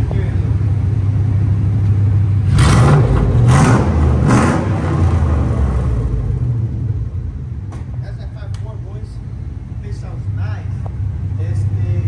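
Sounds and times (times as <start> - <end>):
pickup engine idling and revving: 0.0 - 8.4, 9.0 - 12.0.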